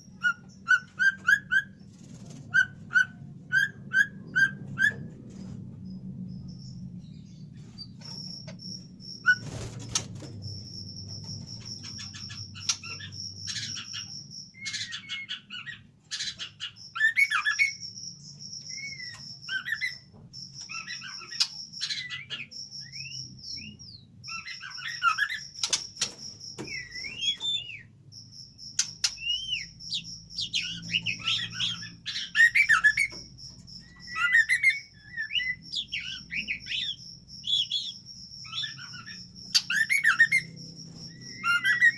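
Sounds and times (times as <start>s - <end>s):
shama bird singing: 0.0s - 41.9s.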